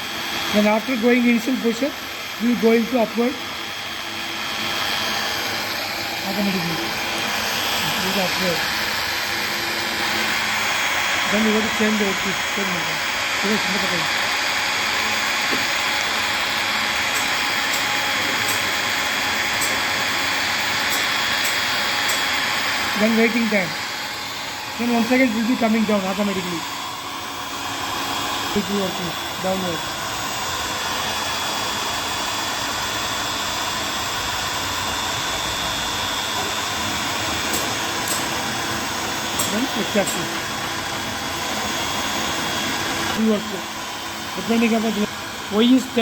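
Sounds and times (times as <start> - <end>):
small motor whirring with whine: 0.0 - 46.0.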